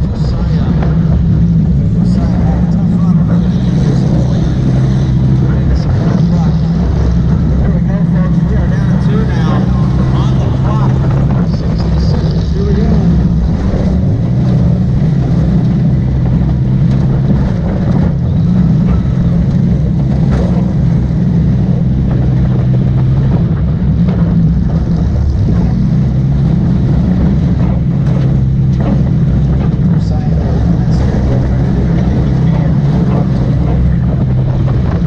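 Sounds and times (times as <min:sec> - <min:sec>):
car engine running hard: 0:00.0 - 0:35.0.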